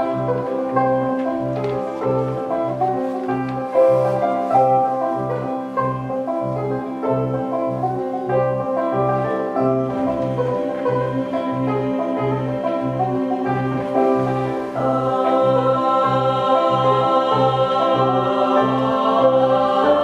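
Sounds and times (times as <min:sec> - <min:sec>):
piano-led instrumental music: 0:00.0 - 0:20.0.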